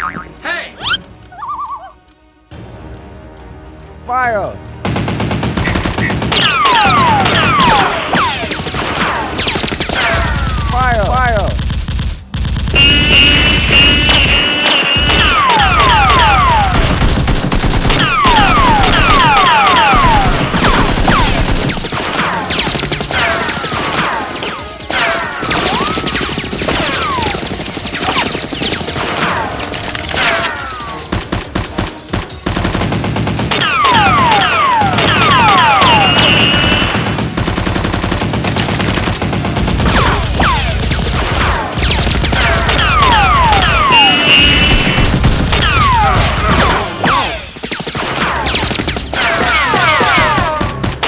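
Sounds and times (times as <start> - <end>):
background music: 0.0 - 11.6, 13.4 - 51.0
rapid gunfire: 4.8 - 51.0.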